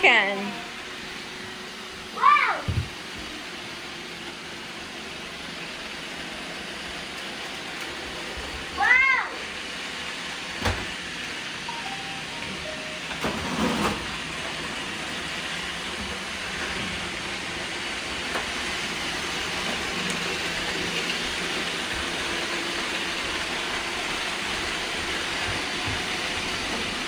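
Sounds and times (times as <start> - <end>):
robot vacuums whirring: 0.0 - 27.0.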